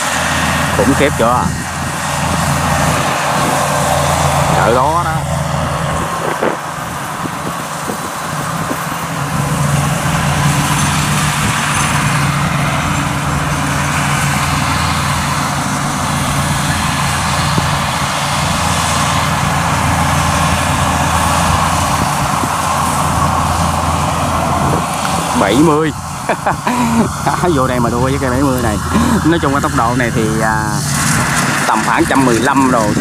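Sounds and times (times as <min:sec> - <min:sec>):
combine harvester droning: 0:00.0 - 0:33.0.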